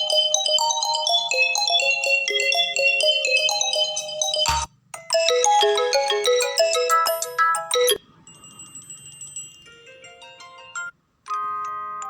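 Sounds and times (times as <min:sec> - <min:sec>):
chiming phone ringtone melody: 0:00.0 - 0:12.0.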